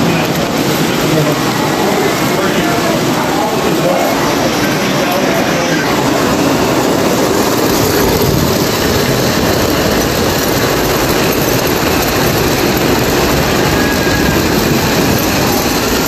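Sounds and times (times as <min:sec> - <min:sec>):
toy train rolling on metal track: 0:00.0 - 0:16.0.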